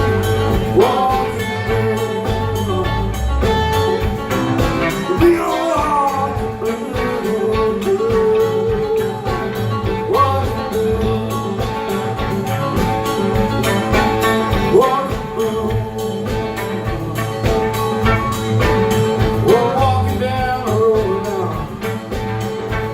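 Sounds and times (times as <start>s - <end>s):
person singing: 0.0s - 17.9s, 18.6s - 22.2s
blues guitar: 0.0s - 22.9s
drum beat: 0.0s - 22.9s.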